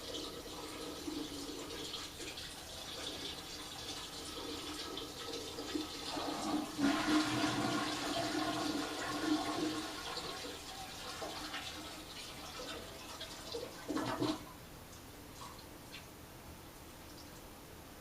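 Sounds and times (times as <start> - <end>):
toilet flush water rushing: 0.0 - 14.5
water trickling: 0.0 - 16.1.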